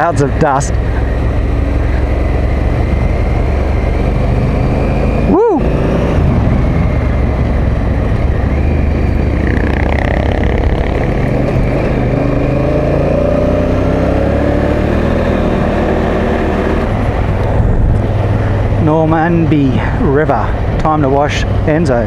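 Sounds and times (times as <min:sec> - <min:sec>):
motorcycle engine running: 0:00.0 - 0:05.4, 0:06.3 - 0:19.7.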